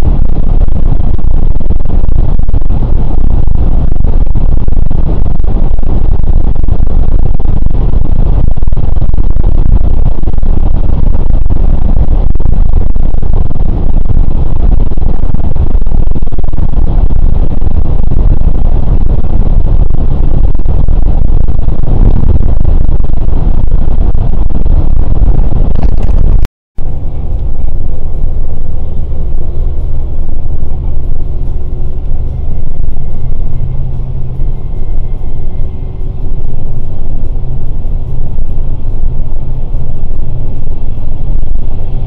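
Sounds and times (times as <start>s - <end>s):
coach engine rumbling: 0.0s - 42.0s.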